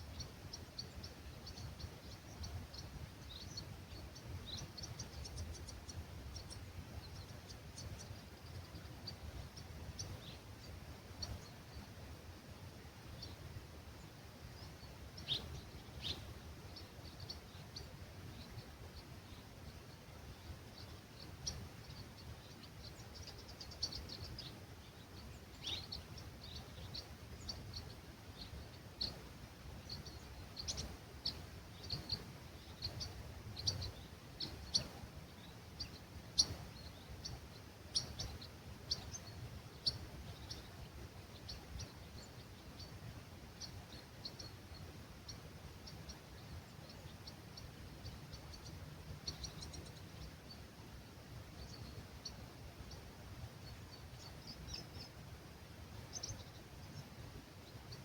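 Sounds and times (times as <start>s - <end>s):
low rumble of breeze: 0.0s - 58.0s
songbirds chirping: 0.0s - 58.0s.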